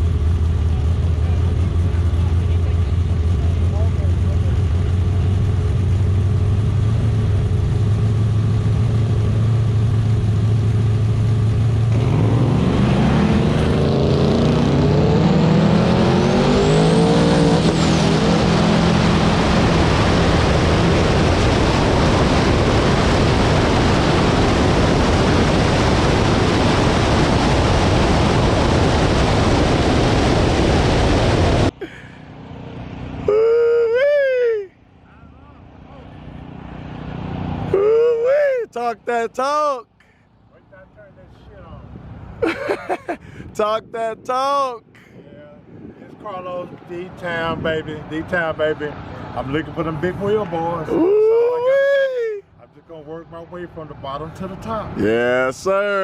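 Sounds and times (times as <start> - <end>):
race car engines revving: 0.0 - 40.8, 46.4 - 51.9
loud engine roar: 0.0 - 56.0.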